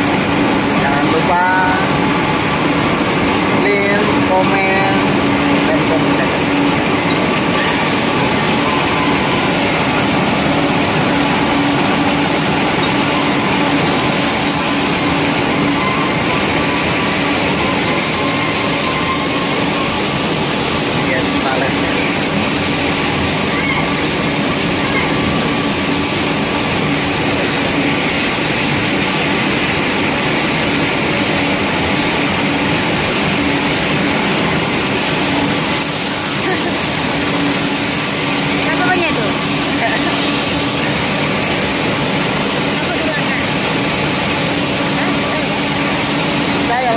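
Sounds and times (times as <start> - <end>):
industrial machinery hum: 0.0 - 46.9
pellet mill presses running: 0.0 - 46.9.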